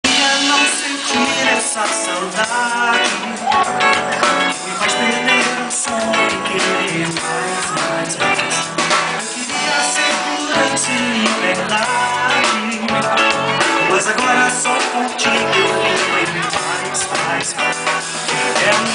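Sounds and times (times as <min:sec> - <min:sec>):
band playing a song: 0:00.0 - 0:18.9
guitar: 0:00.0 - 0:18.9
person singing: 0:00.0 - 0:18.9.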